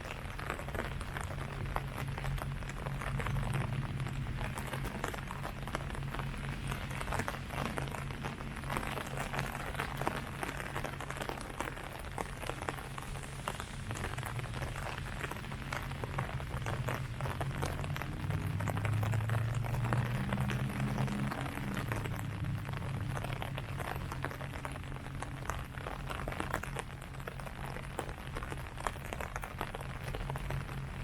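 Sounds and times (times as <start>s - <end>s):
rain falling on leaves: 0.0s - 31.0s
steady low hum: 0.0s - 31.0s.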